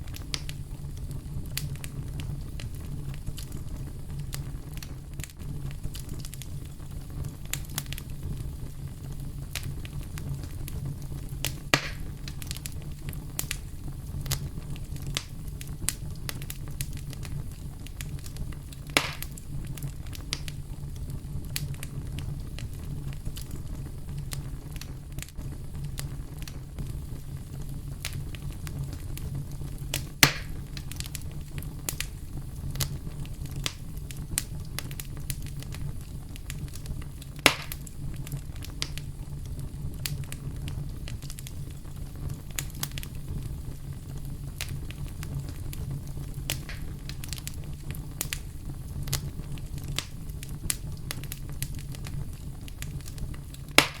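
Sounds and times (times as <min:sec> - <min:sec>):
campfire crackling: 0:00.0 - 0:54.0
loud fire snaps: 0:00.0 - 0:54.0.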